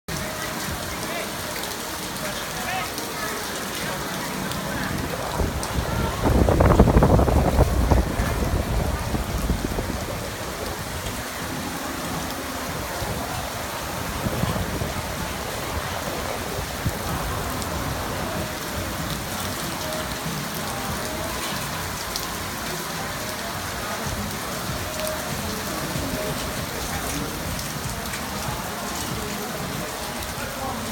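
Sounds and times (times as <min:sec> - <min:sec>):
steady rain falling: 0:00.1 - 0:30.9.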